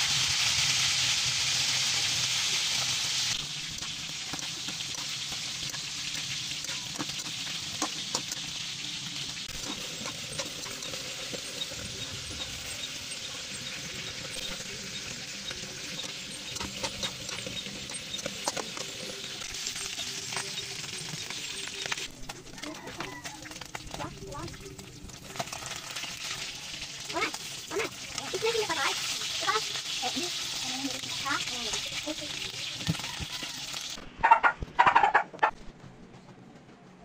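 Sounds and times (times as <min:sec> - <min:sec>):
fish frying in oil: 0:00.0 - 0:34.0
food sizzling in a wok: 0:00.0 - 0:34.0.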